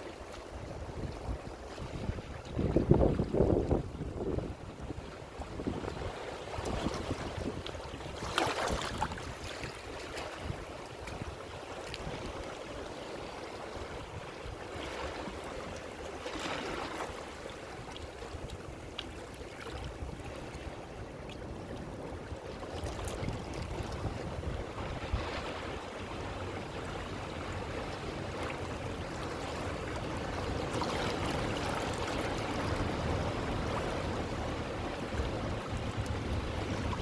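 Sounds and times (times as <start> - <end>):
ocean waves on shore: 0.0 - 37.0.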